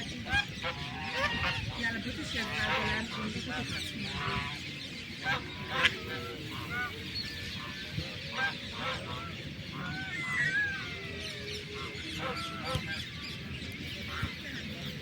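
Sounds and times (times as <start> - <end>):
ducks calling: 0.0 - 15.0.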